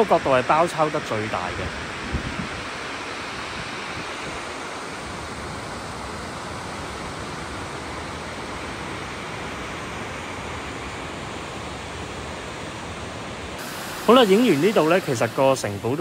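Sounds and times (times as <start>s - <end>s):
water rushing over weir: 0.0s - 16.0s.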